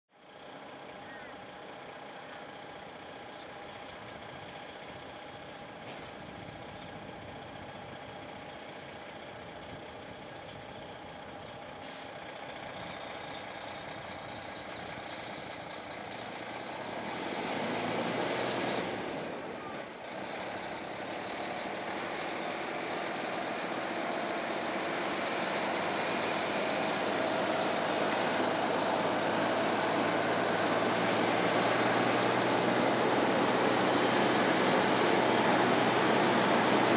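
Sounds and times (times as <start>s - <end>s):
truck diesel engine: 0.1s - 36.9s.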